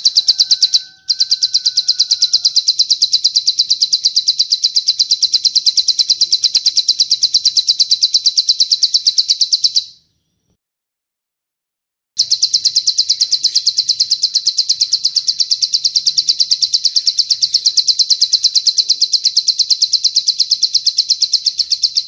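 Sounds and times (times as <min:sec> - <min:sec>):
bird trill: 0:00.0 - 0:10.5, 0:12.2 - 0:22.0.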